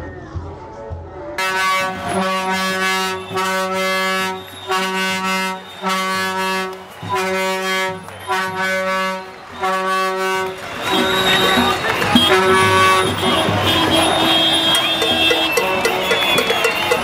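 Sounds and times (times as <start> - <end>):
horn long blasts: 1.4 - 17.0.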